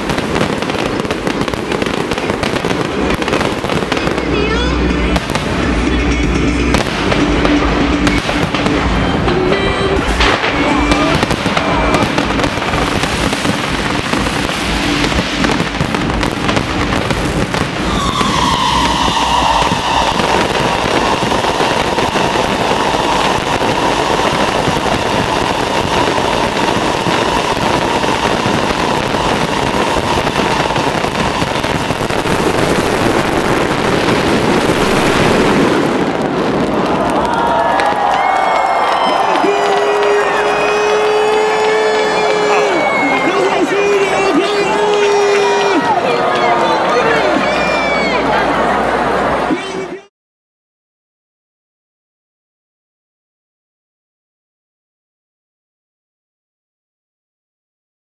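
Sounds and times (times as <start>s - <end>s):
fireworks bursting and crackling: 0.0s - 48.4s.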